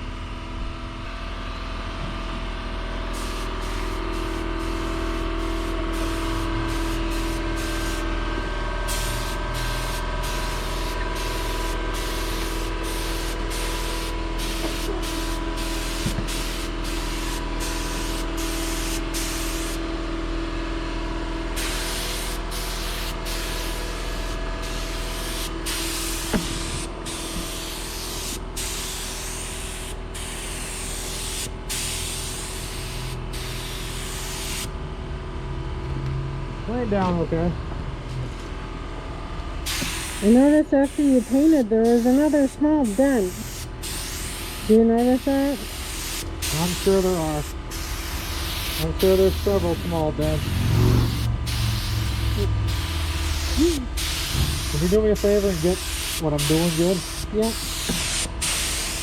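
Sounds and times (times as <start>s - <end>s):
steady low hum: 0.0s - 59.0s
paint spray gun hissing: 3.1s - 8.2s, 8.8s - 19.8s, 21.5s - 34.7s, 39.6s - 59.0s.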